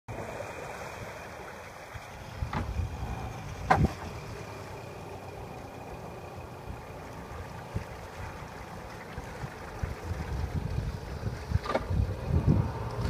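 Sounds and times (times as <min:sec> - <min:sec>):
outboard motors idling: 0:00.1 - 0:13.0.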